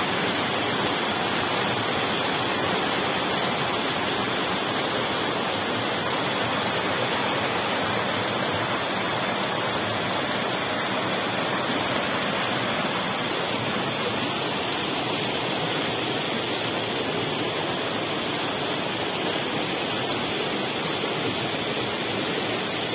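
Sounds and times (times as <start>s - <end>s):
water rushing over rocks: 0.0s - 22.9s.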